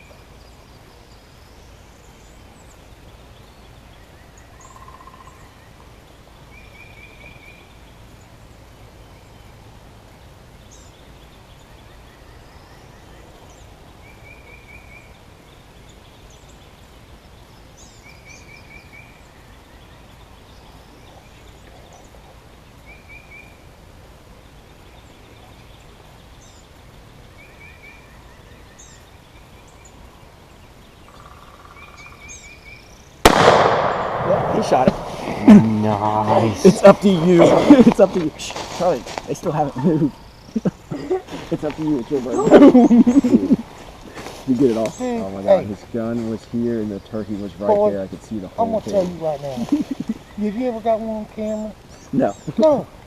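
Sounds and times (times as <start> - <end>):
low background hiss: 0.0 - 53.0.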